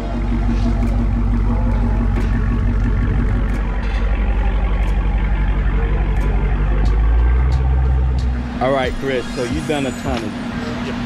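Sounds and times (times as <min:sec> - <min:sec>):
car engine running with deep exhaust: 0:00.0 - 0:11.0.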